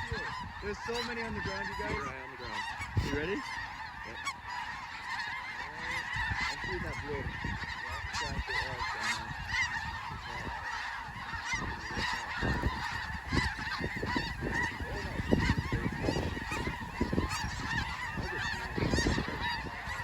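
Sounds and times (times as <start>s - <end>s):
geese honking: 0.0s - 20.0s.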